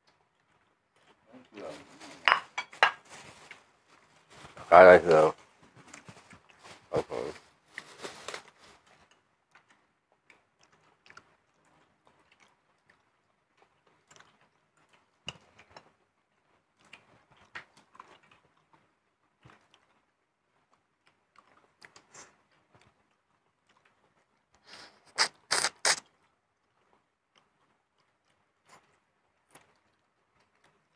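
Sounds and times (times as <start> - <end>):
people chewing: 0.0 - 30.9.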